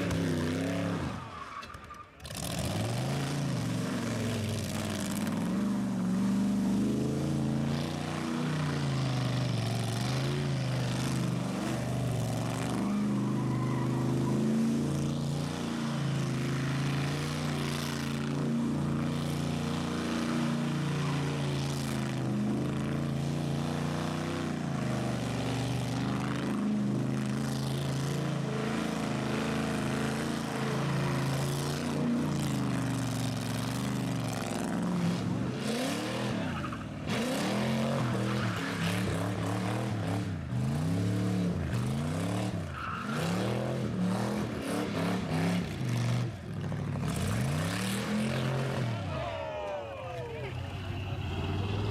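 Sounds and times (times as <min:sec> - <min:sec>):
vehicle engines rumbling: 0:00.0 - 0:51.9.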